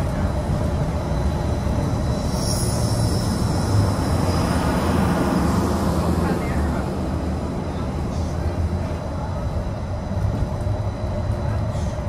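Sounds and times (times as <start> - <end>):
monorail low rumble: 0.0 - 12.0.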